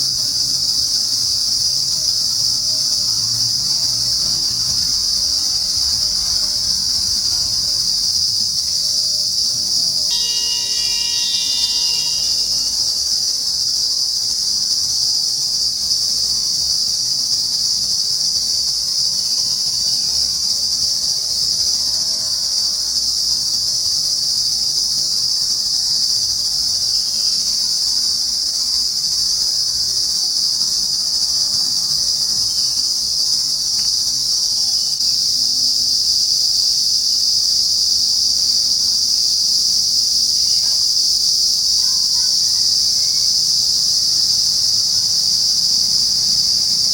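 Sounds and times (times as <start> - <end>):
insects buzzing drone: 0.0 - 46.9.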